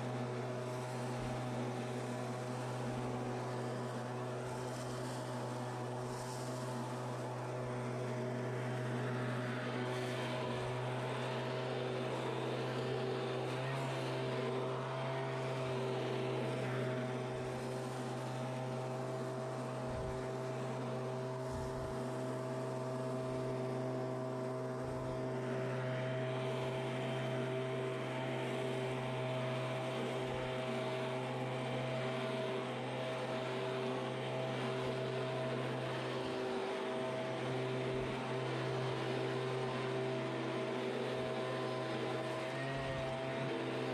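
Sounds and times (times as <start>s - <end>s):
leaf blower engine drone: 0.0s - 43.9s.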